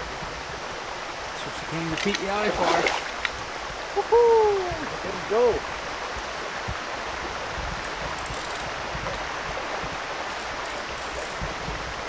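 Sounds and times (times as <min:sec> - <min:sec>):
water flowing in a stream: 0:00.0 - 0:12.0.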